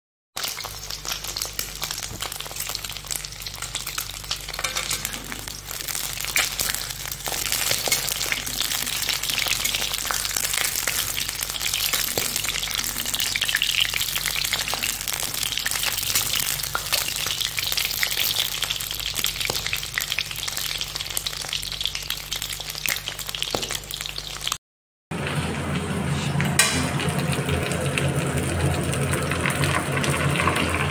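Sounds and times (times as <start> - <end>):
eggs sizzling in hot oil: 0.4 - 24.6, 25.5 - 30.9.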